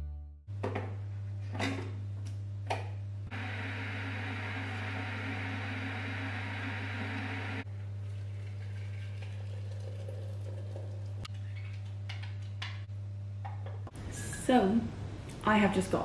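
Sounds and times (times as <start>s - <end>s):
low electrical hum: 0.5s - 16.0s.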